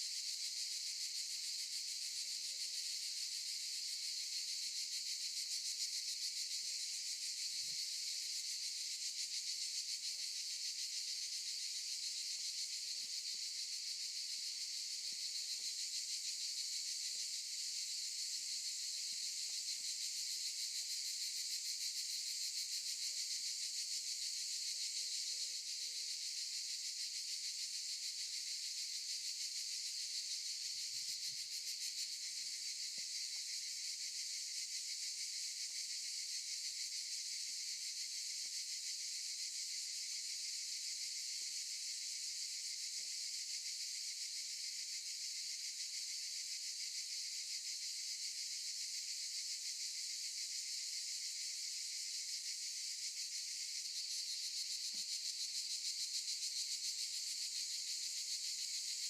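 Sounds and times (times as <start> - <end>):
cicadas buzzing: 8.2 - 48.7, 49.3 - 59.0.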